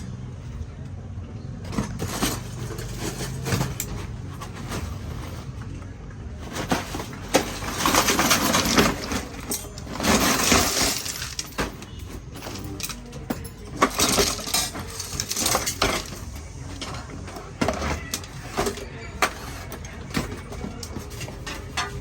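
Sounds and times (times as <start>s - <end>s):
metal scraping: 1.6s - 22.0s.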